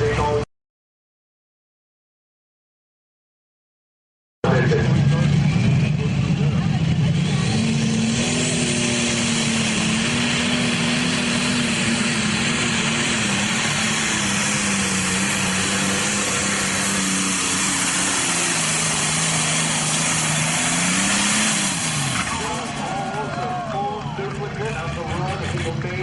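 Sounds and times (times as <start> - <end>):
diesel tractor engine roaring: 0.0 - 0.4, 4.4 - 26.0.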